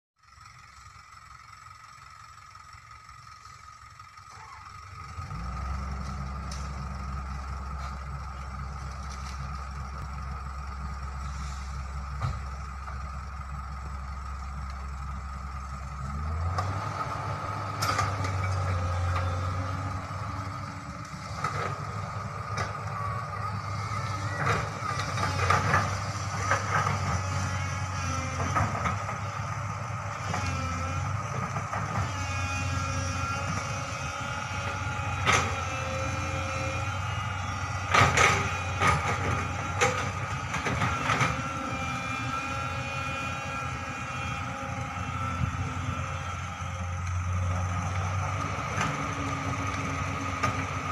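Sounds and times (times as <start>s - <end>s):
excavator diesel engine: 0.2s - 50.9s.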